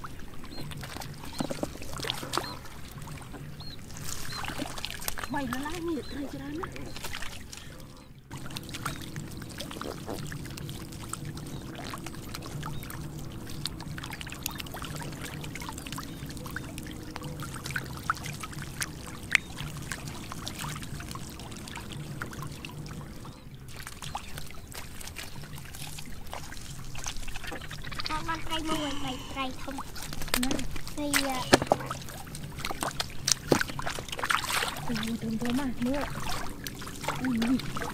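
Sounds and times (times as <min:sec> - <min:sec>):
fish splashing in water: 0:00.0 - 0:37.9
steady low hum: 0:00.0 - 0:37.9.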